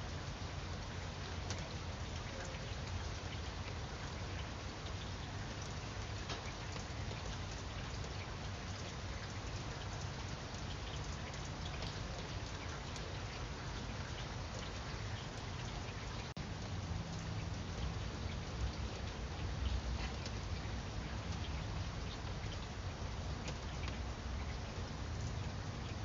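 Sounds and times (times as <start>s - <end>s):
light rain on leaves: 0.0s - 26.0s.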